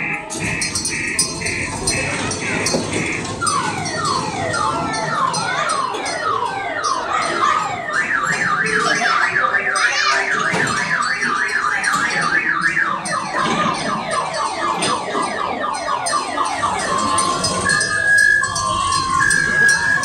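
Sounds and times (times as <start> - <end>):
electronic siren warbling: 0.0 - 20.0.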